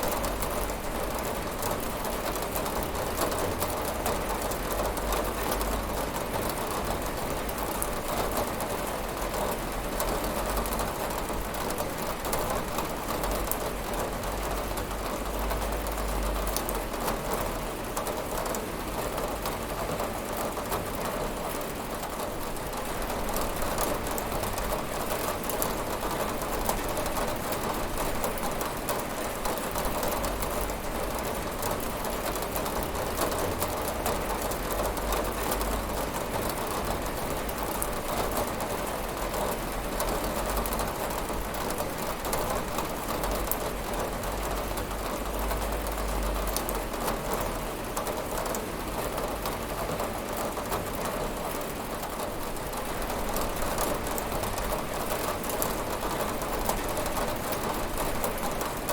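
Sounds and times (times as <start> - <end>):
rain pattering on a window: 0.0 - 58.9.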